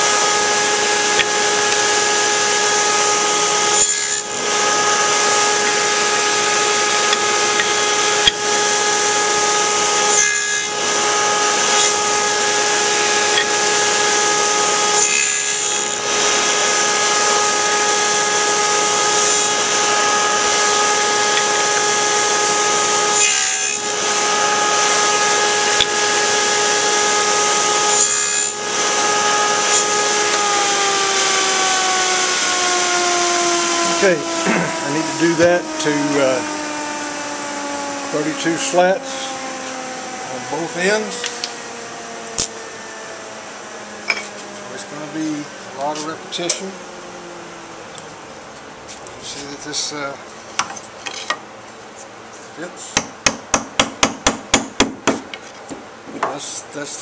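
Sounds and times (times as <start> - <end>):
saw cutting wood: 0.0 - 47.5
table saw humming: 0.0 - 52.0.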